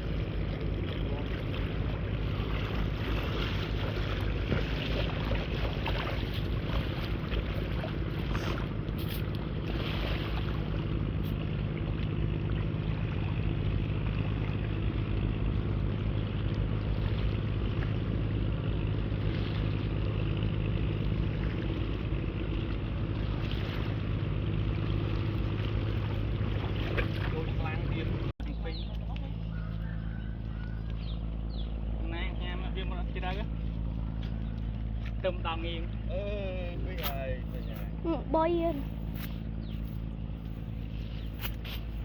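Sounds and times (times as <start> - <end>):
small boat engine running: 0.0 - 42.0.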